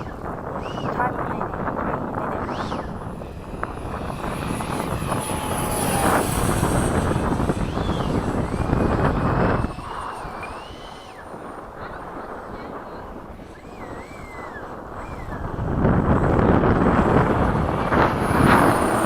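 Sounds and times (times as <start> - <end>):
electric ducted fan jet whining: 0.0 - 19.0
wind rumble on microphone: 0.0 - 19.0.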